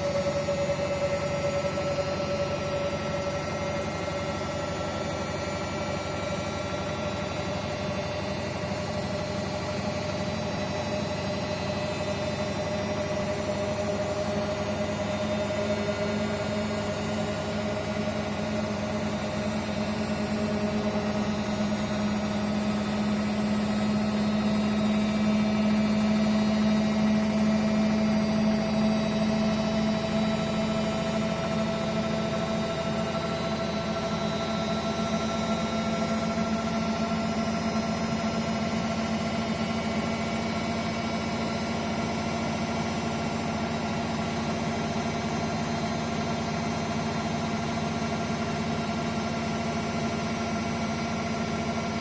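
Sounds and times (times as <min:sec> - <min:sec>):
washing machine motor whine: 0:00.0 - 0:52.0.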